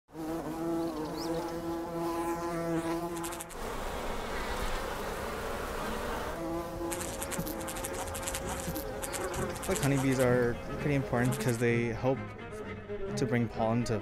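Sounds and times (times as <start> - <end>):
single bee buzzing: 0.1 - 11.7
hum of many bees: 0.1 - 14.0.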